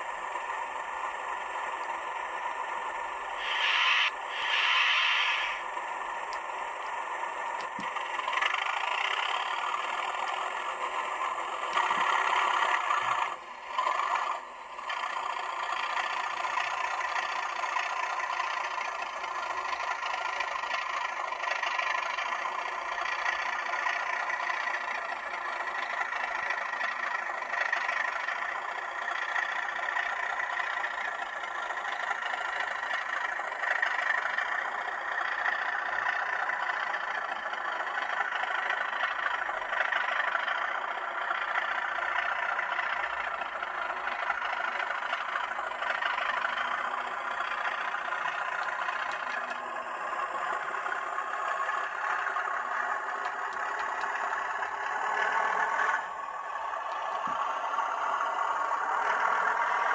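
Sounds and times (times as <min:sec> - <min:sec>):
diesel engine sound from small speaker: 0:00.0 - 0:59.9.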